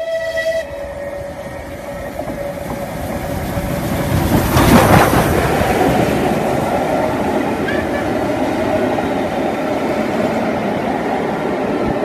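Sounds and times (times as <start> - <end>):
steam train passing at speed: 0.0 - 12.0.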